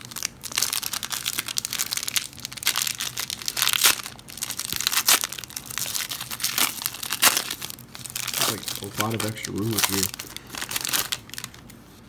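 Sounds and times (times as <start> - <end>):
plastic wrapper crinkling and tearing: 0.0 - 11.8.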